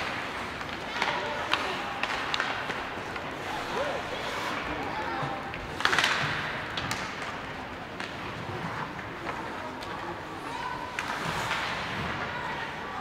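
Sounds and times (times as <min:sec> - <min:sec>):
hockey sticks and puck clacking: 0:00.0 - 0:13.0
skates on ice: 0:00.0 - 0:13.0.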